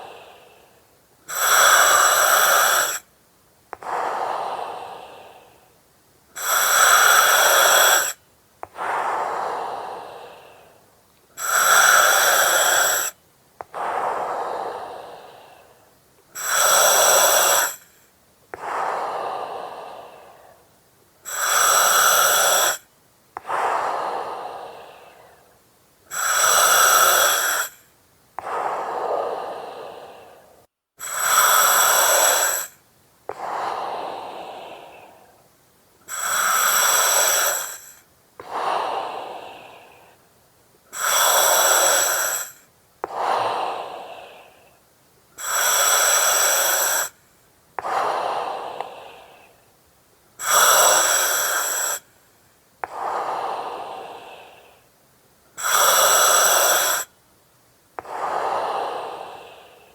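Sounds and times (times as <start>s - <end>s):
breathing through oxygen mask: 0.0s - 3.0s, 6.4s - 10.8s, 11.4s - 15.8s, 16.4s - 20.6s, 21.2s - 22.8s, 23.4s - 25.5s, 26.1s - 35.4s, 36.1s - 40.2s, 40.9s - 44.8s, 45.4s - 47.2s, 47.8s - 49.6s, 50.4s - 52.1s, 52.8s - 54.9s, 55.6s - 57.1s, 58.0s - 59.9s.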